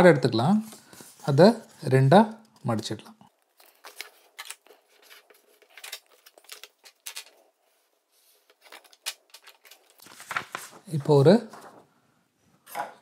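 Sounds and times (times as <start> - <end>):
paper rustling: 0.5 - 11.9.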